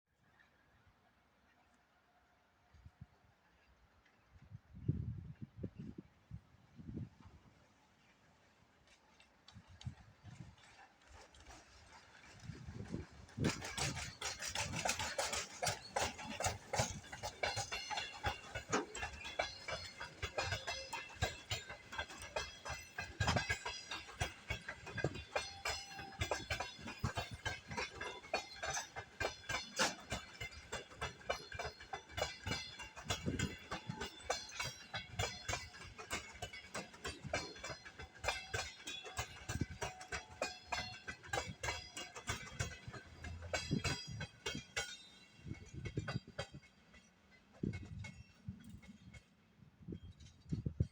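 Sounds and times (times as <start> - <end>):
train wheels clattering over rails: 8.8 - 50.9.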